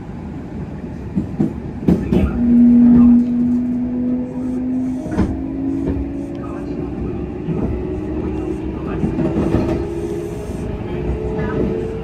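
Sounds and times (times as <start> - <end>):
train rumble on board: 0.0 - 12.0.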